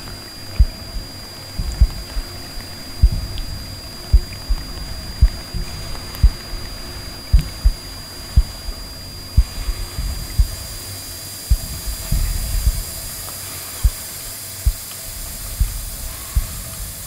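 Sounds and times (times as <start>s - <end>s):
heartbeat thuds: 0.5s - 17.0s.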